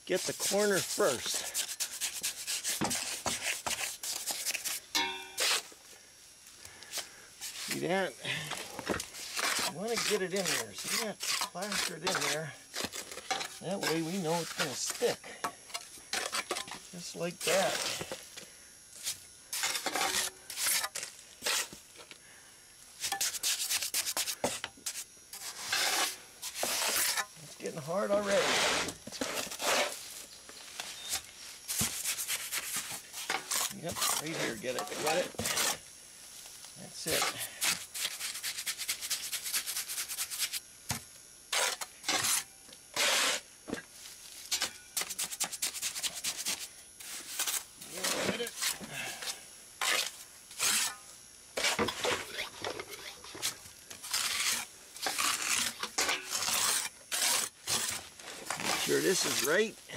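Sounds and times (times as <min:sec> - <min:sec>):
trowel scraping mortar: 0:00.2 - 0:05.8, 0:08.6 - 0:18.2, 0:19.0 - 0:21.8, 0:23.0 - 0:30.2, 0:30.8 - 0:35.8, 0:37.0 - 0:40.6, 0:41.5 - 0:43.5, 0:44.4 - 0:59.7.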